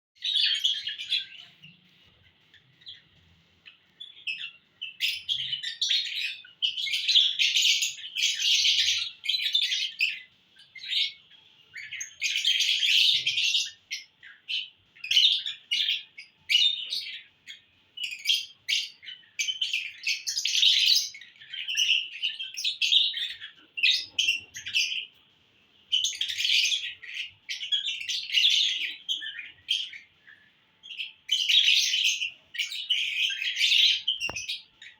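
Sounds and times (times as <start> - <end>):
birds chirping and chattering: 0.2 - 34.9.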